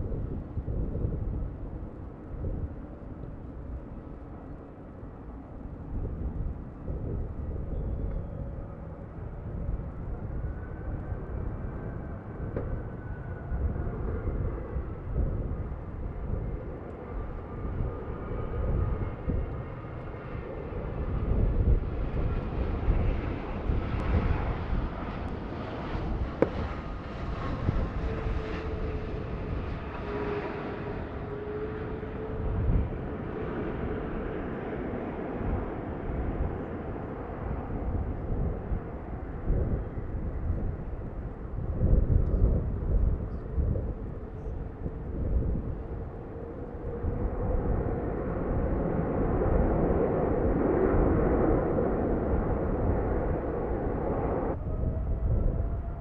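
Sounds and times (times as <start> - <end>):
jet engines droning: 0.0 - 56.0
wind buffeting microphone: 0.0 - 56.0.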